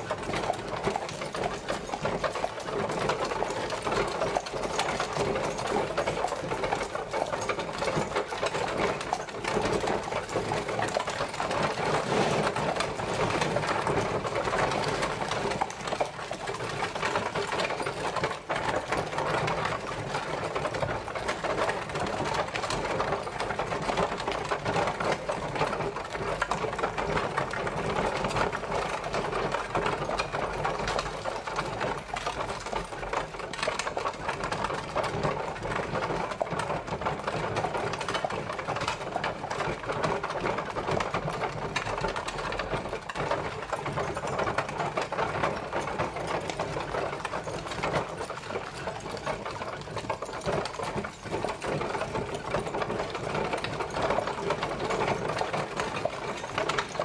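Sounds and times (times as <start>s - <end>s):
carriage rattling clatter: 0.0s - 57.0s.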